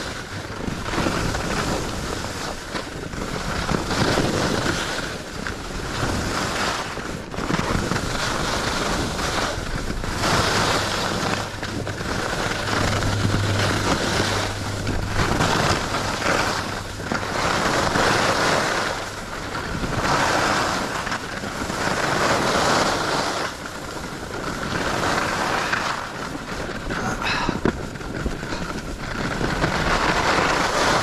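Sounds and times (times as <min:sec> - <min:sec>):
skis scraping on snow: 0:00.0 - 0:31.0
wind rushing over microphone: 0:00.0 - 0:31.0.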